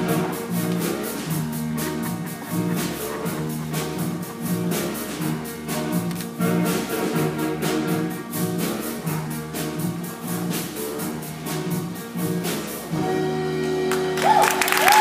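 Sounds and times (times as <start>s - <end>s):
drum and cymbal hits: 0.0s - 15.0s
live band music: 0.0s - 15.0s.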